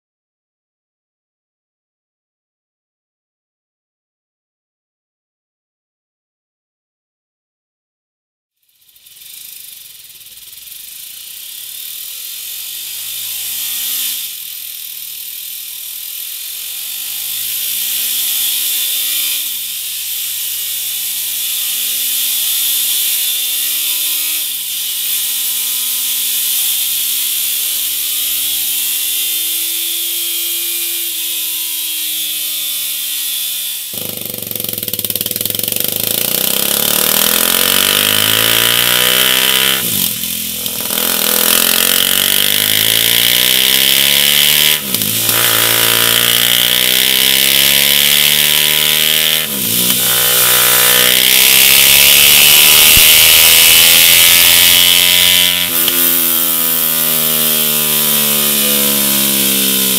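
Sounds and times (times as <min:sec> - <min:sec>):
motorcycle engine accelerating: 0:08.6 - 0:31.2, 0:33.9 - 0:59.9.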